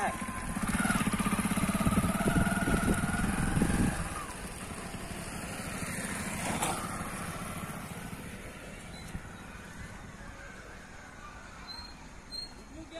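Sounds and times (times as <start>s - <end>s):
motorcycle engine passing by: 0.0s - 12.6s.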